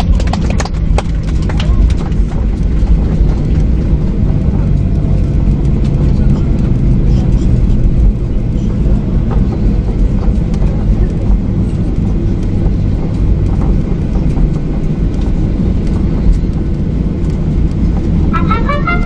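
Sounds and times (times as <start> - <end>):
faint rattles and ticks: 0.0 - 18.4
low rumble of aircraft landing: 0.0 - 19.0.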